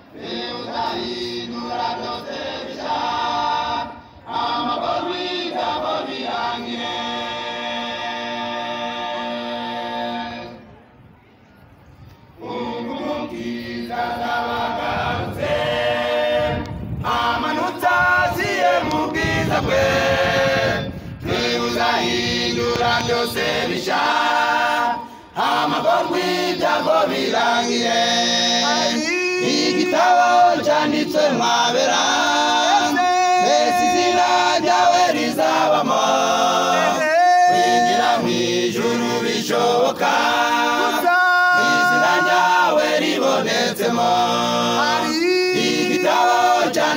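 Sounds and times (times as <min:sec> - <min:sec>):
choir singing: 0:00.0 - 0:10.8, 0:12.4 - 0:46.9.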